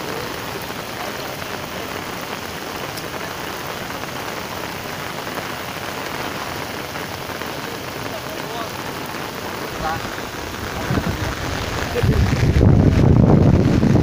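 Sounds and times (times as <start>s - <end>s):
heavy rain on water: 0.0s - 14.0s.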